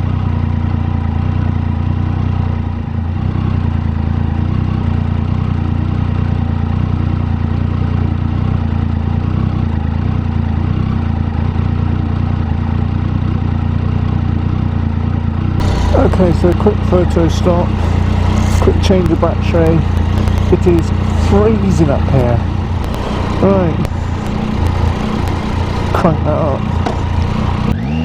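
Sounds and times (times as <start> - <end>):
motorcycle engine running steadily: 0.0 - 28.0.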